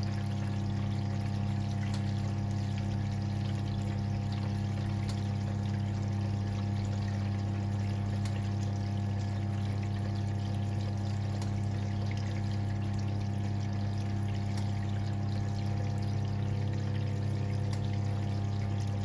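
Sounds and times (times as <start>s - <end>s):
washing machine electric hum: 0.0s - 19.0s
water pouring and splashing: 0.0s - 19.0s.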